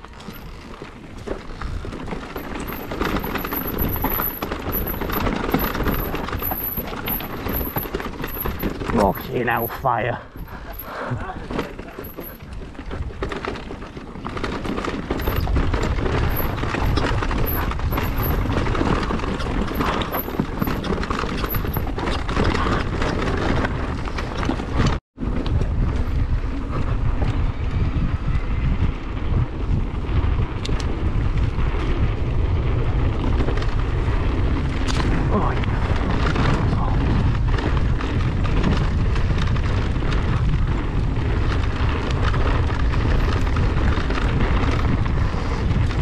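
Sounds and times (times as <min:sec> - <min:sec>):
bike knocks and rattles: 0:00.0 - 0:09.7, 0:10.3 - 0:26.6, 0:29.0 - 0:46.0
bike tyre noise: 0:00.0 - 0:46.0
wind buffeting microphone: 0:00.0 - 0:46.0.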